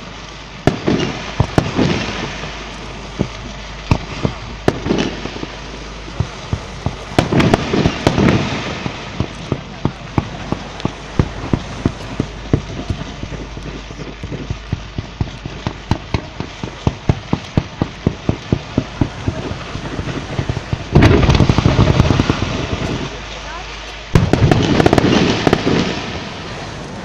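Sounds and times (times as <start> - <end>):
fireworks bangs and pops: 0.0 - 27.0.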